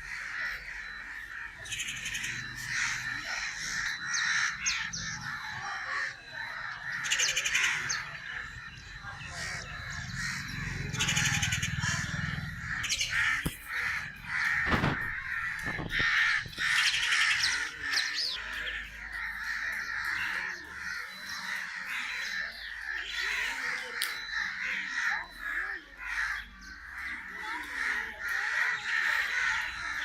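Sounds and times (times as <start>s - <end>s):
crows cawing: 0.0s - 30.0s.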